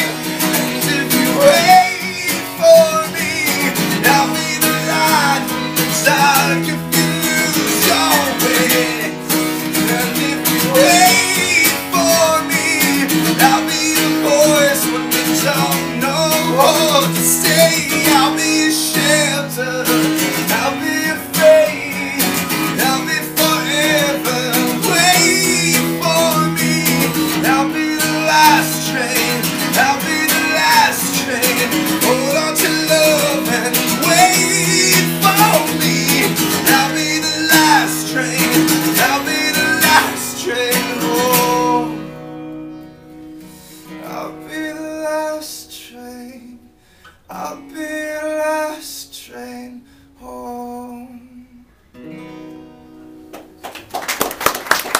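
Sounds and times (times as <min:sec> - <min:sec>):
man singing: 0:00.0 - 0:42.2, 0:43.8 - 0:46.7, 0:47.3 - 0:51.7
acoustic guitar strumming: 0:00.0 - 0:53.8.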